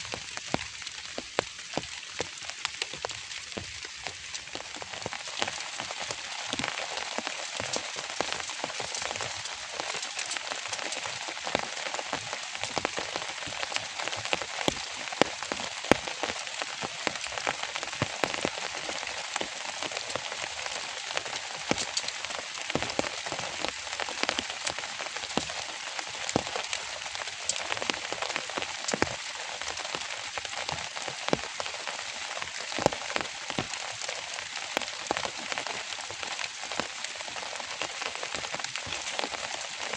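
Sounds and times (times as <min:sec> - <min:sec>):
sharp raindrop hits: 0:00.0 - 0:39.9
steady rain: 0:00.0 - 0:39.9.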